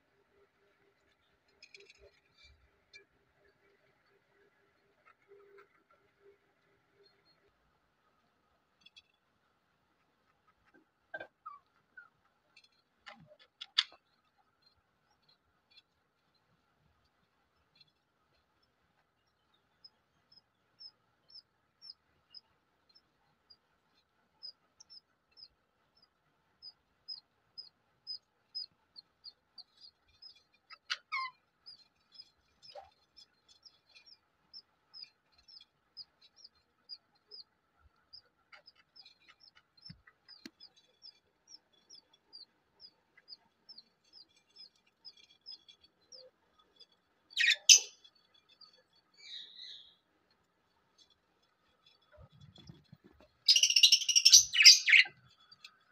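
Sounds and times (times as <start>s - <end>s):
parrot chick peeping: 0.3s - 55.9s.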